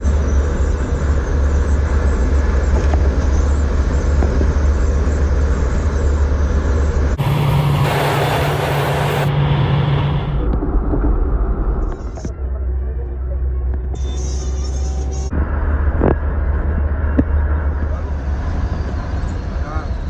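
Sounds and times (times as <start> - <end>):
motor vehicle rumbling on road: 0.0 - 20.0.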